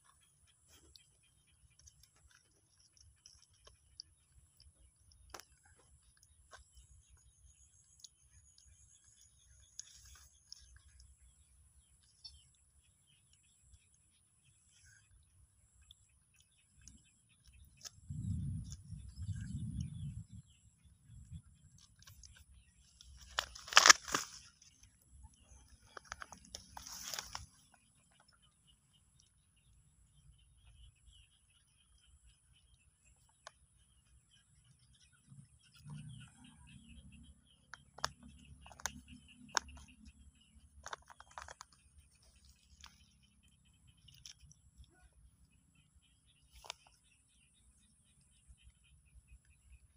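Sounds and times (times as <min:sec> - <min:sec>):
small ticks: 0:00.0 - 0:49.9.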